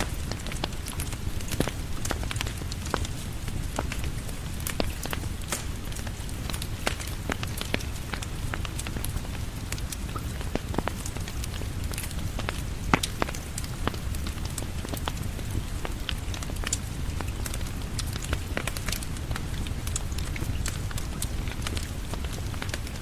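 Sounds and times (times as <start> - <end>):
steady rain falling: 0.0 - 23.0
wood fire crackling and popping: 0.0 - 23.0.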